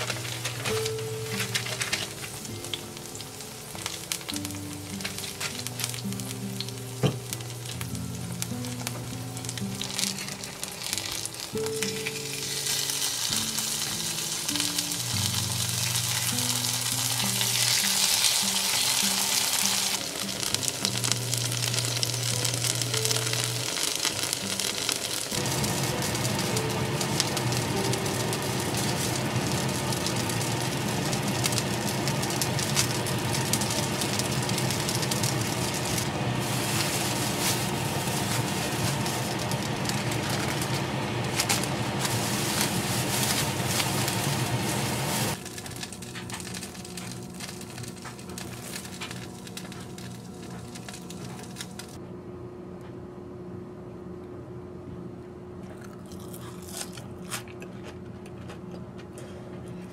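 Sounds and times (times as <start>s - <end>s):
plastic bag crinkling: 0.0s - 52.0s
sparse crackles: 0.0s - 52.0s
steady hum: 0.0s - 59.9s.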